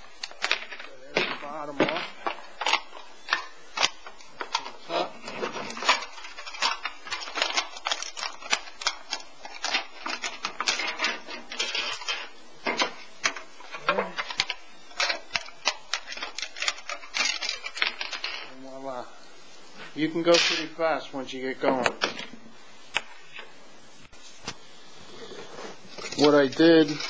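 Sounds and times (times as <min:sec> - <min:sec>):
thin metal crinkling: 0:00.0 - 0:27.0.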